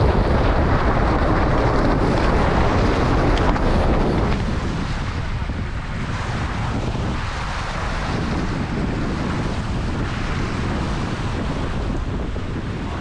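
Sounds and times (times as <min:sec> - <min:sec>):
bow wave splashing along hull: 0:00.0 - 0:13.0
wind buffeting microphone: 0:00.0 - 0:13.0.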